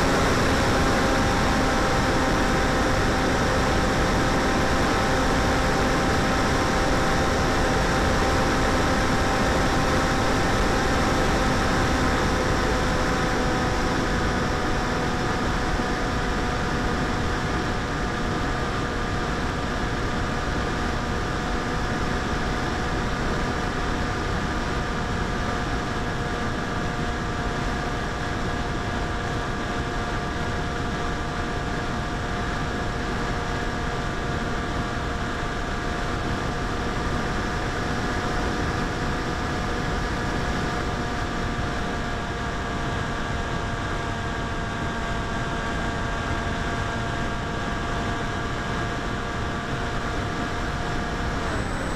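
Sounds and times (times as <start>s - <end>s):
electric motor and propeller whining: 0.0s - 51.9s
rushing wind: 0.0s - 51.9s.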